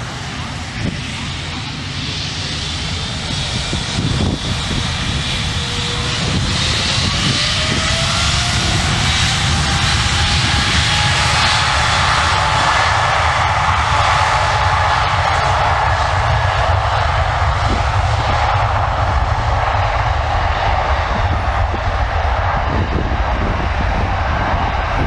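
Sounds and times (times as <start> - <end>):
jet engines rushing and whining: 0.0 - 25.0.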